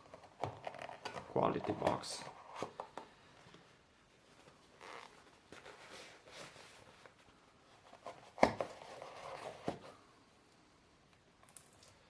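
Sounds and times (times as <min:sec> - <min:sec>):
hands rustling a box: 0:00.0 - 0:10.0.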